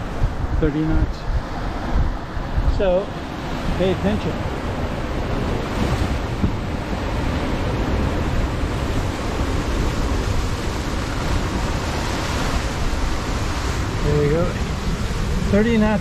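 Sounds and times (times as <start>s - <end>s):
waves rushing along hull: 0.0s - 16.0s
wind buffeting microphone: 0.0s - 16.0s.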